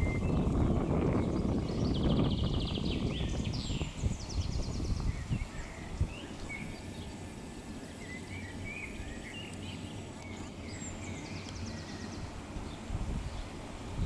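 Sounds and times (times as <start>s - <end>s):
small birds chirping: 0.0s - 13.9s
wind rumble on microphone: 0.0s - 14.0s.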